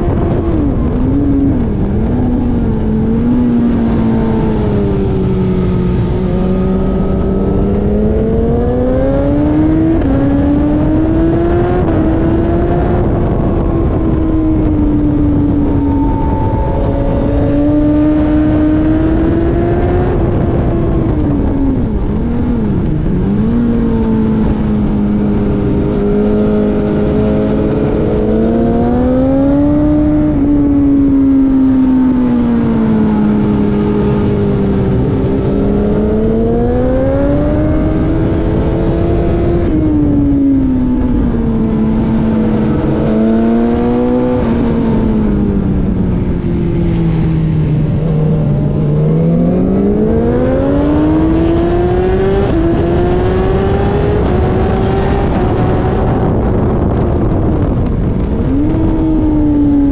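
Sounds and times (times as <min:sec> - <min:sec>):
race car engine revving: 0:00.0 - 0:46.3, 0:47.0 - 0:59.9.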